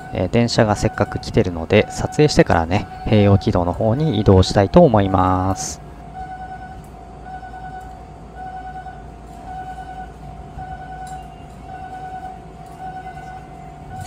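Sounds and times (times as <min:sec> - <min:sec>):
level-crossing electronic bell: 0:00.0 - 0:14.0.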